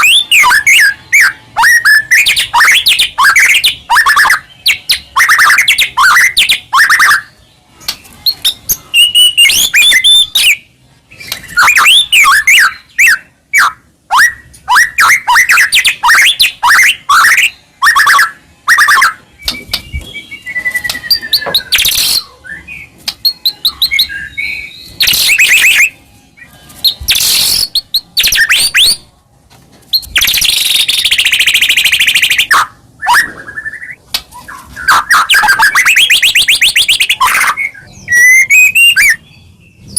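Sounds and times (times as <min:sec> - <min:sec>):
bird singing whistles and chirps: 0:00.0 - 0:07.4, 0:08.0 - 0:29.0, 0:29.9 - 0:39.9.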